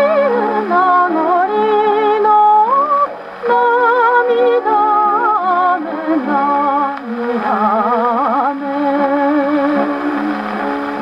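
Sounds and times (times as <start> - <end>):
orchestral record on phonograph: 0.0 - 11.0.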